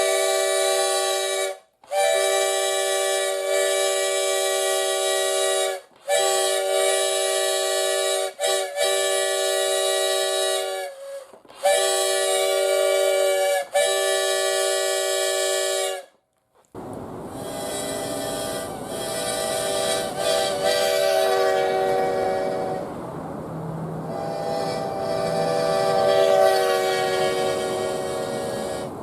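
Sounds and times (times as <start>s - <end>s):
homemade train horn blasts: 0.0s - 16.2s, 17.3s - 23.1s, 24.0s - 29.0s.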